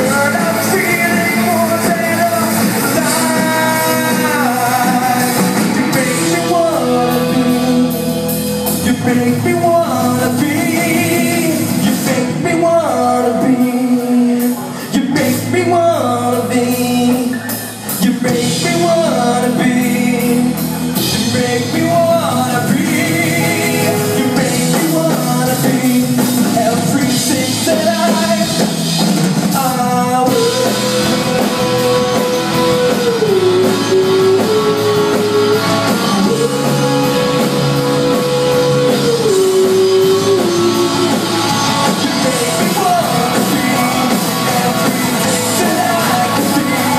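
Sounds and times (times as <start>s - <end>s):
melodic lead line: 0.0s - 14.5s, 15.3s - 46.9s
live rock band playing: 0.0s - 46.9s.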